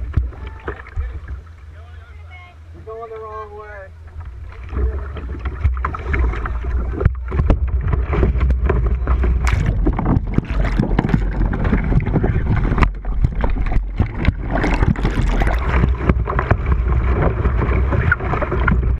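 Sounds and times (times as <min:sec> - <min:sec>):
low microphone rumble: 0:00.0 - 0:18.9
river water splashing: 0:00.0 - 0:18.9.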